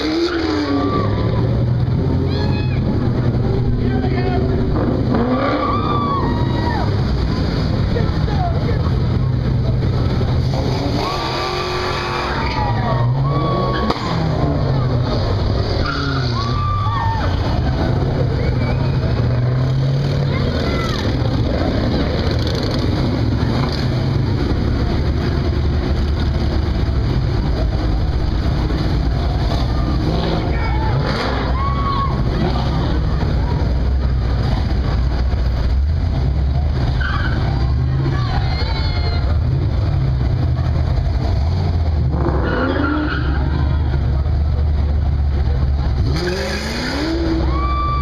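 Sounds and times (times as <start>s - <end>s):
car engine and exhaust rumbling: 0.0s - 48.0s.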